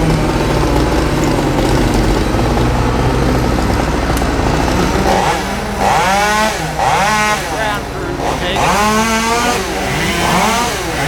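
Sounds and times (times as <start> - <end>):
heavy engine idling: 0.0 - 11.0.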